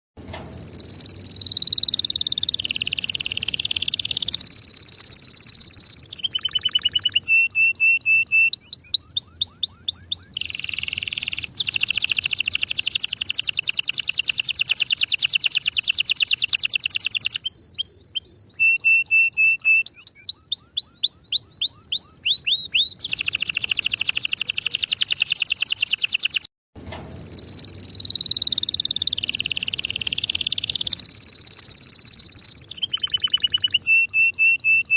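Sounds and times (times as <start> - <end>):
canary singing: 0.5 - 26.5, 27.1 - 34.9.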